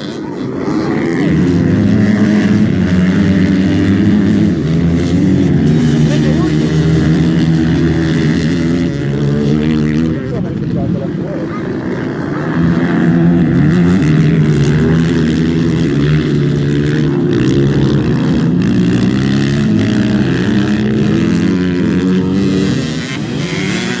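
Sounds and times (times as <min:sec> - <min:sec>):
motocross engines revving: 0:00.0 - 0:24.0.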